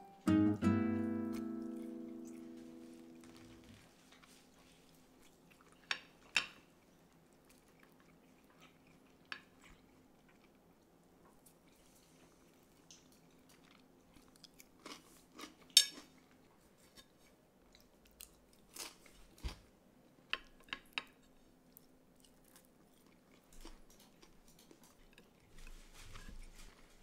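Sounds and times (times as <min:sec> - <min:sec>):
soft chewing: 0:01.3 - 0:27.0.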